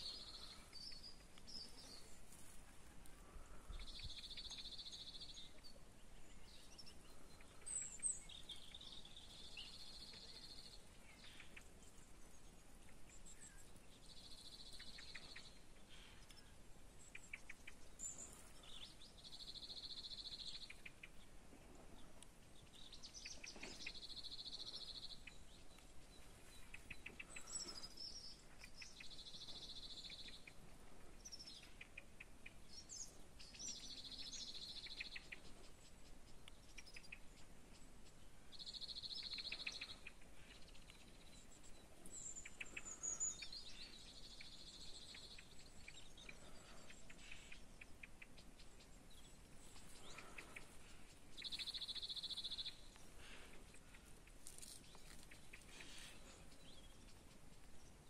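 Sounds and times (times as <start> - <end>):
birds chirping and trilling: 0.0 - 21.3, 21.9 - 58.0.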